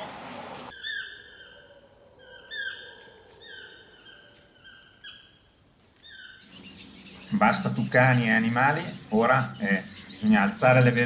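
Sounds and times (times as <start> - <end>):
toucan calling: 0.7 - 11.0.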